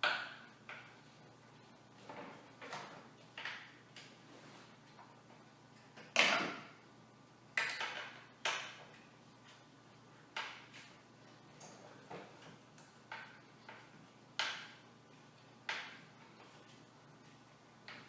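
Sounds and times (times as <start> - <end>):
chair parts clicking and knocking: 0.0 - 1.1, 2.0 - 4.2, 4.9 - 6.8, 7.6 - 9.7, 10.3 - 14.8, 15.4 - 18.0.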